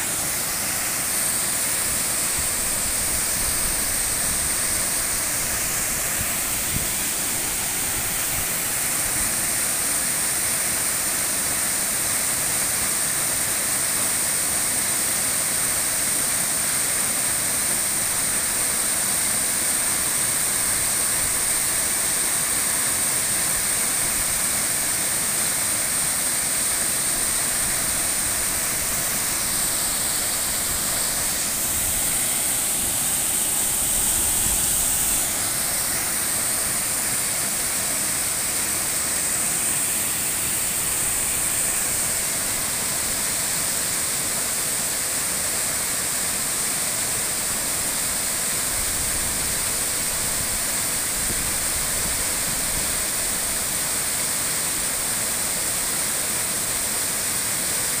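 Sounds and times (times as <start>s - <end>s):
waterfall pouring into pool: 0.0s - 58.0s.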